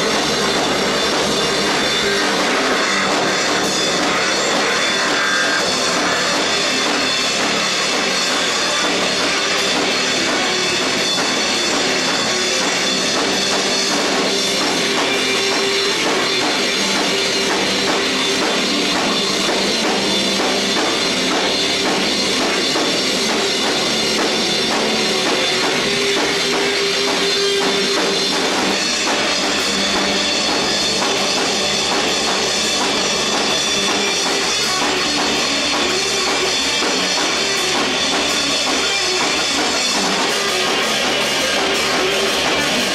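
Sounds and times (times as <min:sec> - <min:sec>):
drum kit beat: 0:00.0 - 0:42.9
electric guitar: 0:00.0 - 0:42.9.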